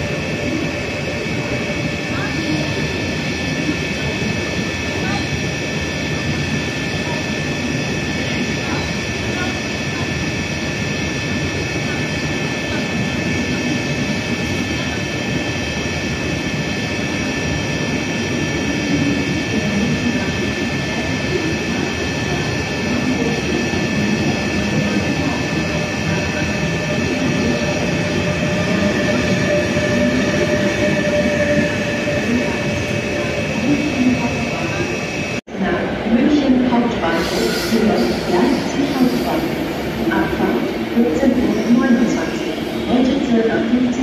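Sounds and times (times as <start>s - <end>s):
electric locomotive passing: 0.0s - 44.0s.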